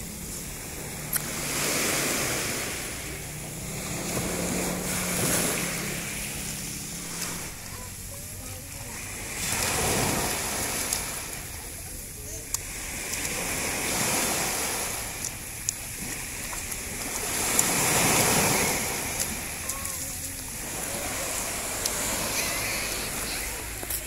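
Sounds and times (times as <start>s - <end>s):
surf washing over pebbly beach: 0.0s - 24.0s.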